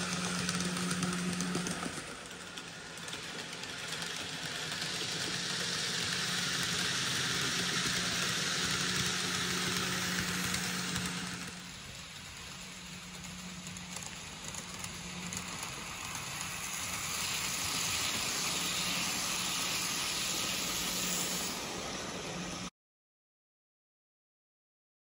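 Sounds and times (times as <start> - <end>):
model train motor hum: 0.0 - 22.7
wheels rattling on rails: 0.0 - 22.7.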